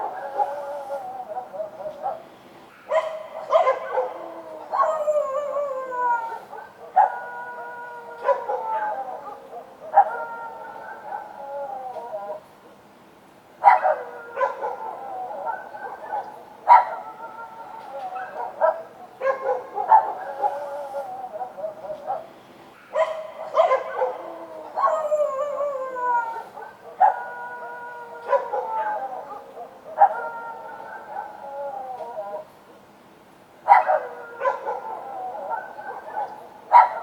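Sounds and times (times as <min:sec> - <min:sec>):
dogs barking: 0:00.0 - 0:05.6, 0:06.3 - 0:11.5, 0:13.6 - 0:32.5, 0:33.6 - 0:37.0
dogs howling: 0:00.0 - 0:12.5, 0:13.6 - 0:32.6, 0:33.6 - 0:37.0.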